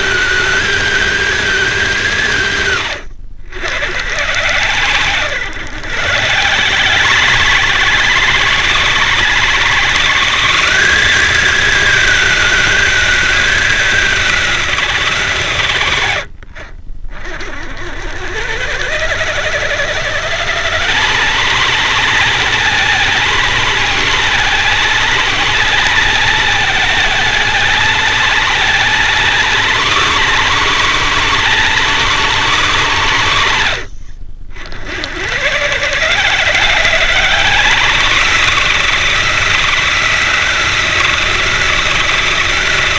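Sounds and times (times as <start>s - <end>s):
electric motor whining: 0.0s - 42.9s.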